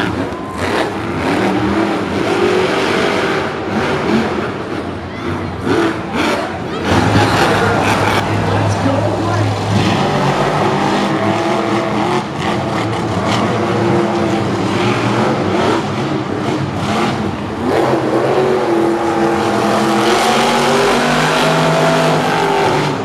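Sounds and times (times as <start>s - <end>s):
monster truck engines revving: 0.0s - 23.0s.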